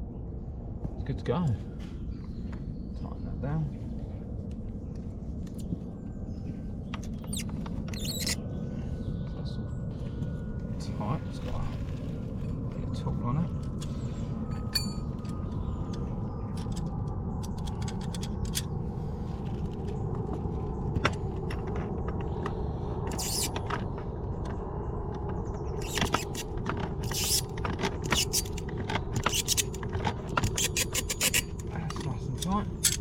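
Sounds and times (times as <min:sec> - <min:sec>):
low rumble: 0:00.0 - 0:33.0.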